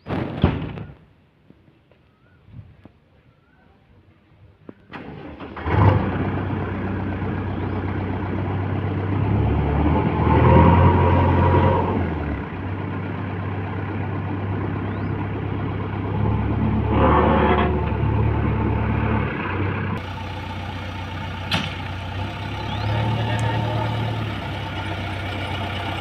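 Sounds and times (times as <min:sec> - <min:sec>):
diesel engine revving: 0:04.9 - 0:26.0.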